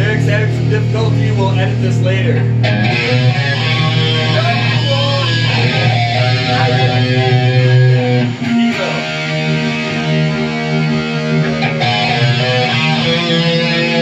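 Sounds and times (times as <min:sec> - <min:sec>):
amplified electric guitar chords: 0:00.0 - 0:14.0.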